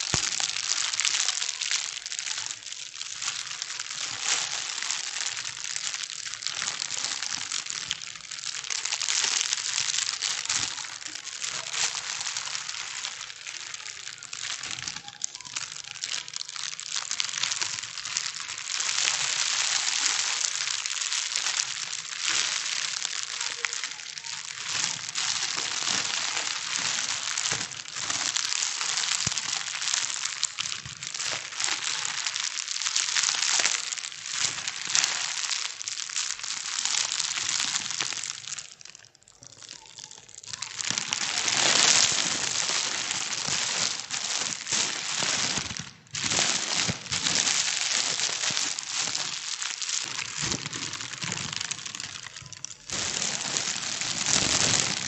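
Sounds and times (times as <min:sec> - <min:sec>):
plastic bags crinkling: 0:00.0 - 0:55.0.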